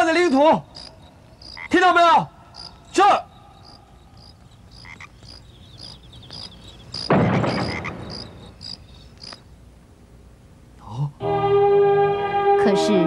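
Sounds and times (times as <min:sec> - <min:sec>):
crickets chirping: 0:00.0 - 0:11.1.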